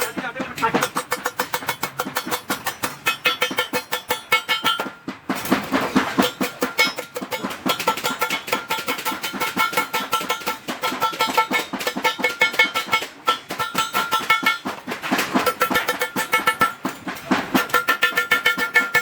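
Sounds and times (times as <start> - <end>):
rapid hammering on steel sheet: 0.0 - 19.0.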